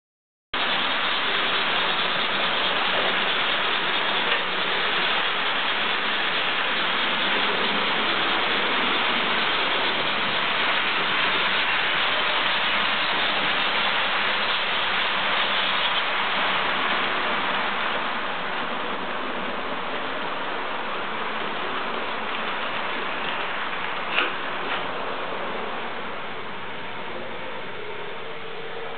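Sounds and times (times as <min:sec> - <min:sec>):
model trains whirring on track: 0:00.6 - 0:28.9.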